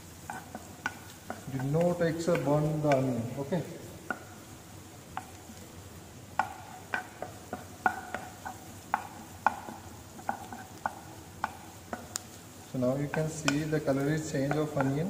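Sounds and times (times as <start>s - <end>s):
onion sizzling in frying pan: 0.0s - 15.0s
spatula tapping pan: 0.0s - 15.0s.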